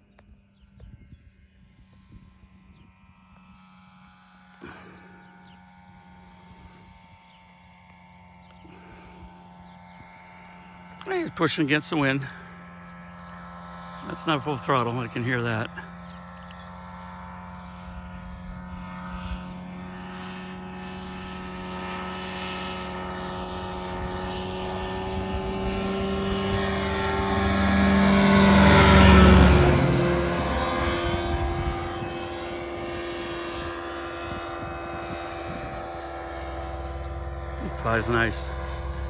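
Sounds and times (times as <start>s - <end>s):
propeller aircraft engine drone: 0.0s - 39.0s.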